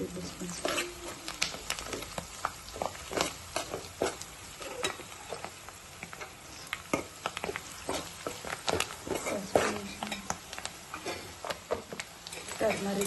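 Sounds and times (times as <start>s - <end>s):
onions sizzling in a pan: 0.0s - 13.0s
spoon scraping a pan: 0.5s - 13.0s.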